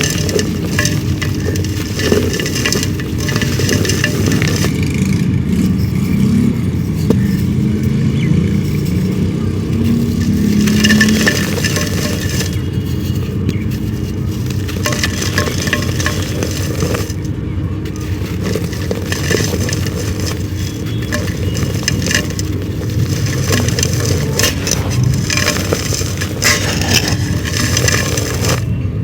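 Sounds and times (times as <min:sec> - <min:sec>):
dry clay crumbling: 0:00.0 - 0:29.0
vehicle engine rumble: 0:00.0 - 0:29.0.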